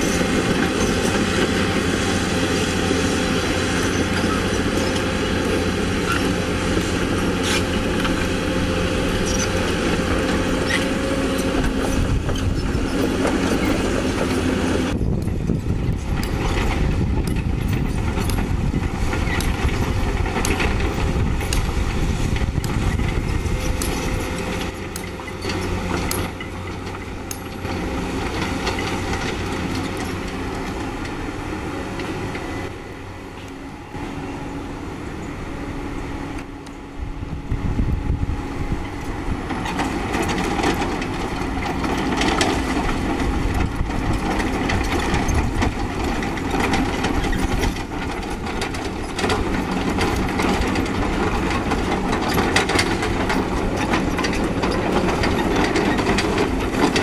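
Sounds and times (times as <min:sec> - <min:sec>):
steel tracks clanking over stones: 0:00.0 - 0:34.3, 0:37.7 - 0:57.0
excavator diesel engine running: 0:00.0 - 0:57.0.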